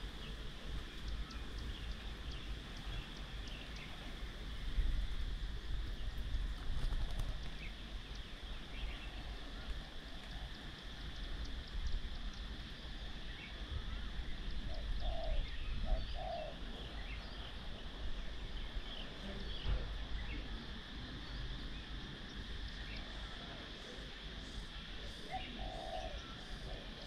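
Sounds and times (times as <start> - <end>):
birds chirping: 0.0 - 4.8, 5.9 - 27.0
low paired bird calls: 0.0 - 4.9, 5.9 - 27.0.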